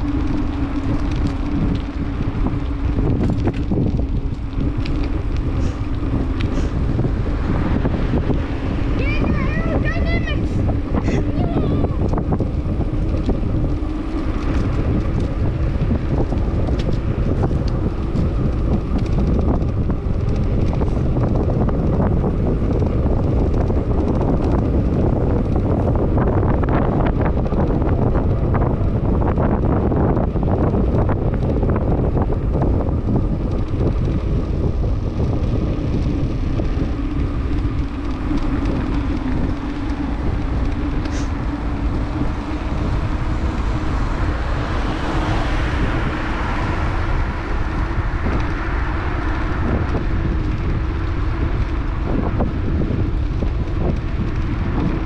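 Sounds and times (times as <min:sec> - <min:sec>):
bicycle tyres rolling on concrete: 0:00.0 - 0:55.0
wind on microphone: 0:00.0 - 0:55.0.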